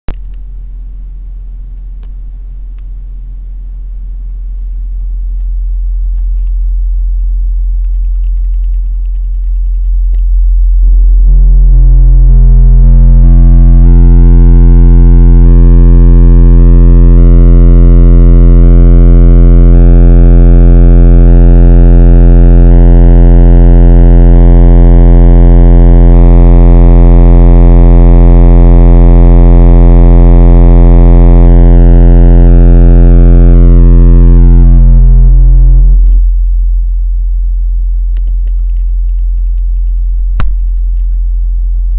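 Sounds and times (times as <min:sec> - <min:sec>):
subwoofer bass test tone: 0:00.1 - 0:41.9.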